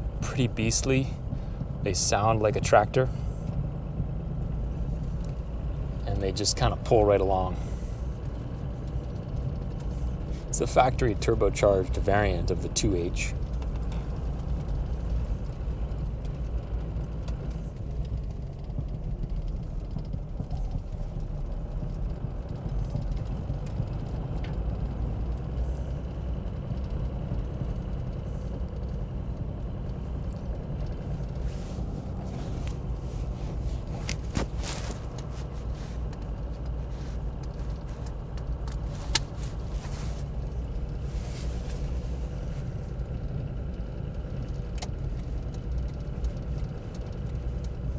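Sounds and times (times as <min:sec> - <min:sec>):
diesel engine rumbling: 0:00.0 - 0:47.9
light clicks and ticks: 0:04.4 - 0:47.9.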